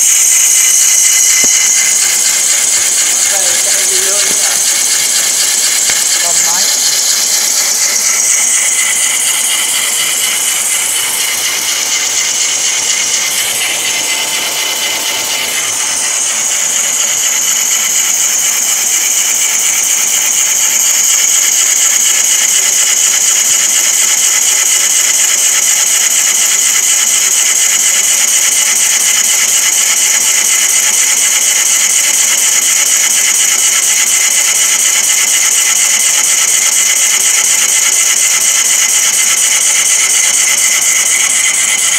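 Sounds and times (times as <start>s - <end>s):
wood lathe cutting hiss: 0.0s - 41.9s.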